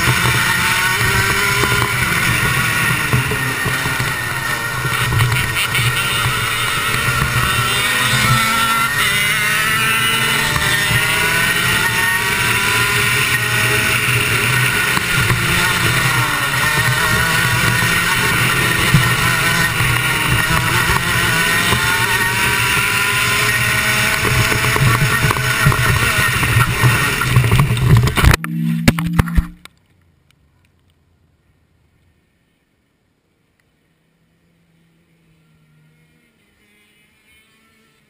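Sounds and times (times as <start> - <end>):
kart engine revving: 0.0 - 29.6, 34.7 - 38.0.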